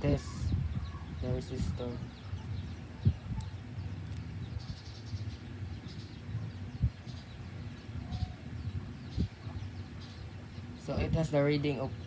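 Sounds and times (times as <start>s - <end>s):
faint bird chirps: 0.0s - 11.3s
low rumble: 0.0s - 11.3s.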